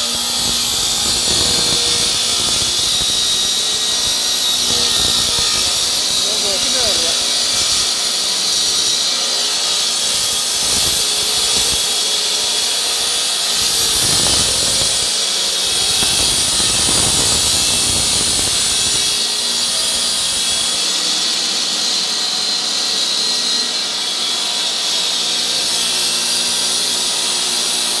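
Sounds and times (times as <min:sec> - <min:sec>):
floor saw cutting concrete: 0:00.0 - 0:28.0.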